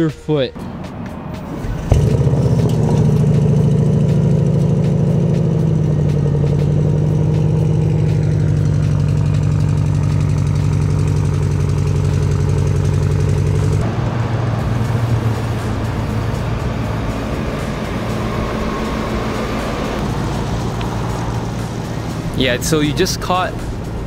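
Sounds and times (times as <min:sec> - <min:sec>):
car engine starting and idling: 0:00.6 - 0:24.0.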